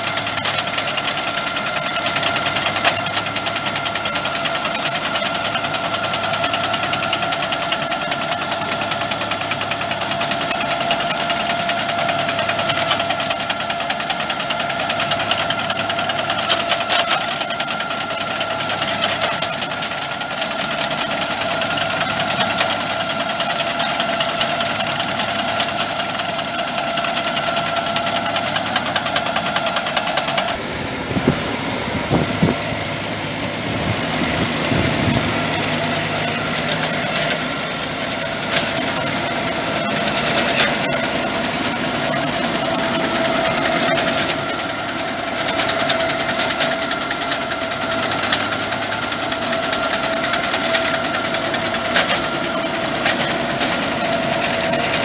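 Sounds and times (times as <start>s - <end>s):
tractor engine and hydraulics whining: 0.0s - 55.0s.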